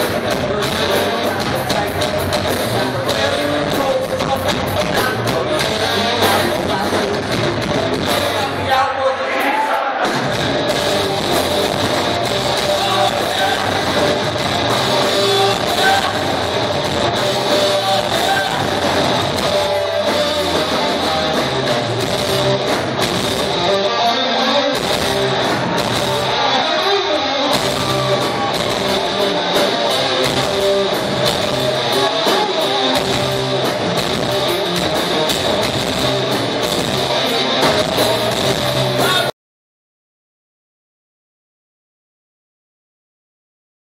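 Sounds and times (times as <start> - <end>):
live rock band playing: 0.0 - 9.0, 10.0 - 39.3.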